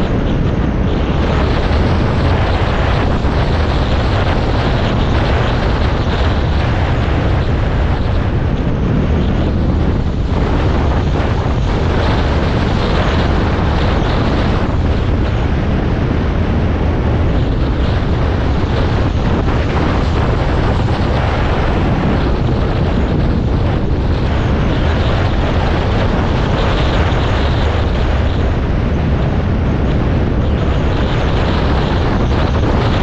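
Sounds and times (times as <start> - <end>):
wind noise on microphone: 0.0 - 33.0.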